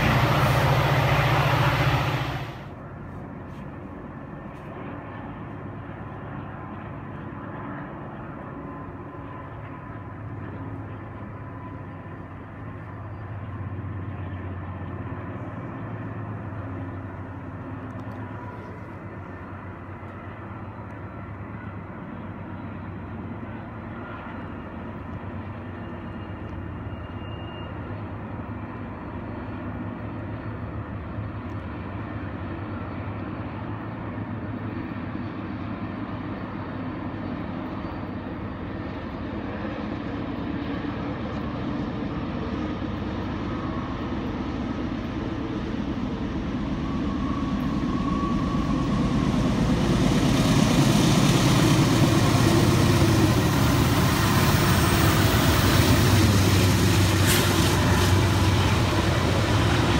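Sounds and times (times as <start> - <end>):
distant freight train rumbling: 0.0 - 59.9.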